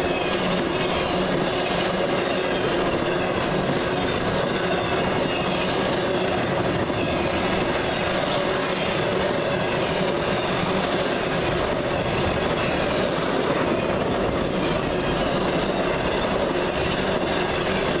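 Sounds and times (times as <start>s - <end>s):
freight cars rumbling on rails: 0.0s - 18.0s.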